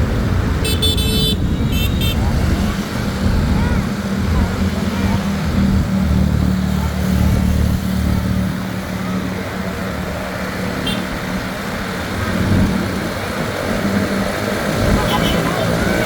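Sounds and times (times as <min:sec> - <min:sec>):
bus engine running: 0:00.0 - 0:16.0
road traffic: 0:00.0 - 0:16.0.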